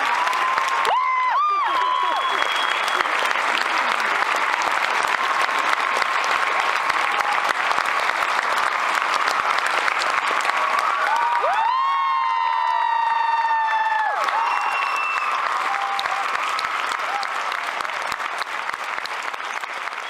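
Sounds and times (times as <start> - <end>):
cheers and whoop: 0.0 - 18.7
audience applauding: 0.0 - 20.0.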